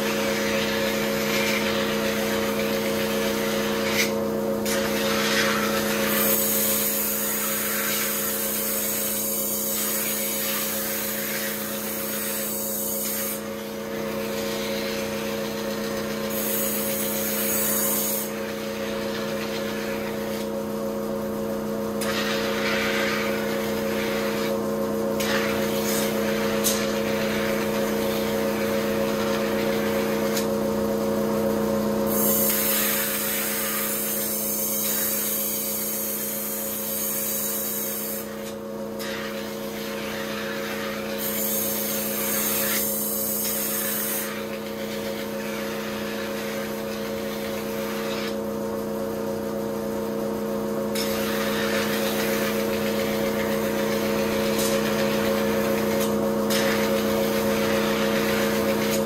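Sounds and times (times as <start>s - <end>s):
sharpening machine humming: 0.0s - 59.0s.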